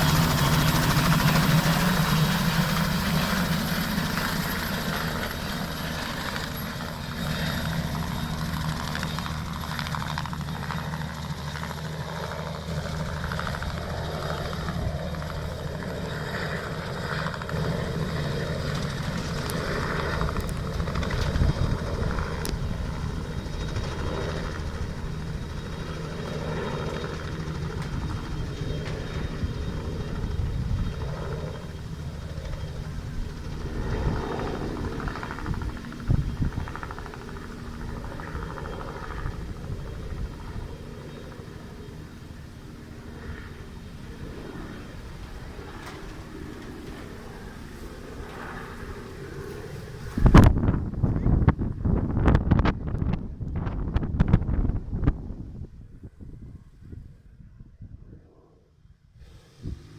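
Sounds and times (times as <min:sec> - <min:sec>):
helicopter taking off: 0:00.0 - 0:56.3, 0:59.2 - 0:59.9.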